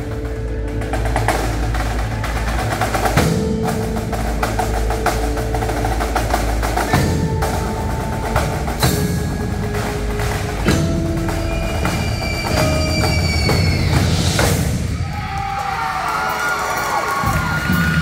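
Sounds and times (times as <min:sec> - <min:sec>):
marimba: 0:00.0 - 0:14.7
held notes: 0:00.0 - 0:15.0
marching snare drums: 0:00.0 - 0:15.2
drum kit: 0:00.0 - 0:18.0.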